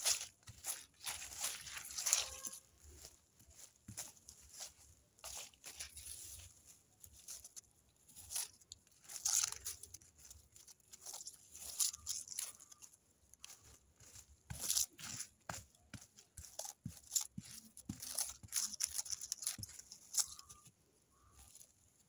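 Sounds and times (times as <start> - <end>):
dry leaves crunching and rustling: 0.0 - 21.8.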